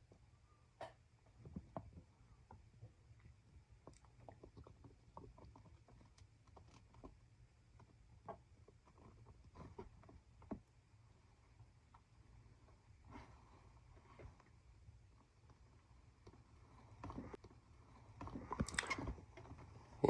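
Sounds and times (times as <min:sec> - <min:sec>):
light clicks and scratches: 0:00.0 - 0:20.0.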